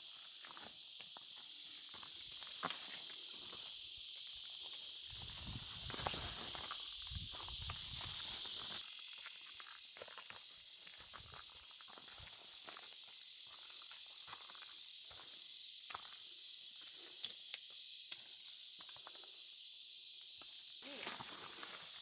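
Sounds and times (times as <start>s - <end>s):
insect chorus droning: 0.0s - 22.0s
faint ticks and crackles: 0.2s - 19.4s.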